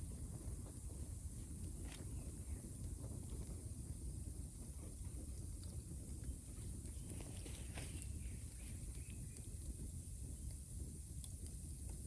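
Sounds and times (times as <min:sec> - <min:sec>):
faint fire crackles: 0:00.0 - 0:12.0
low rumble of burning: 0:00.0 - 0:12.0.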